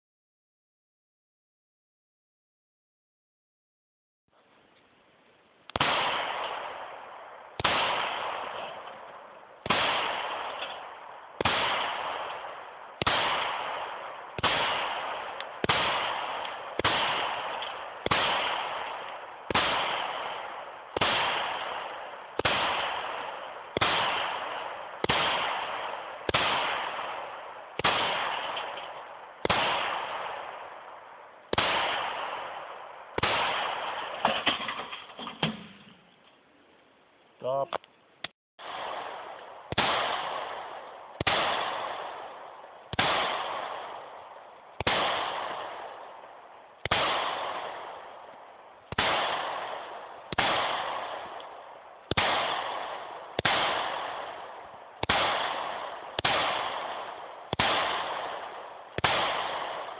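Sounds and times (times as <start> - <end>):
gunshots with echo: 5.7 - 35.7, 38.6 - 48.3, 48.9 - 59.9.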